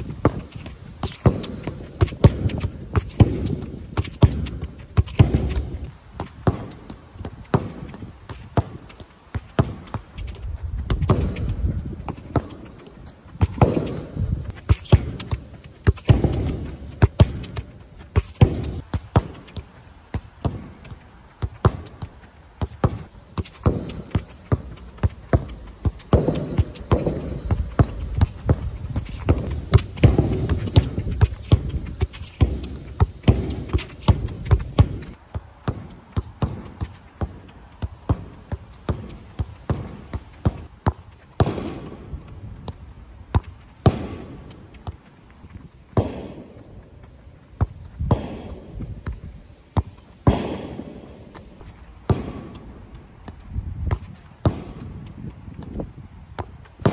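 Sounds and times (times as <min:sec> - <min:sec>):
boot kicking ball: 0:00.0 - 0:46.5, 0:47.6 - 0:52.7.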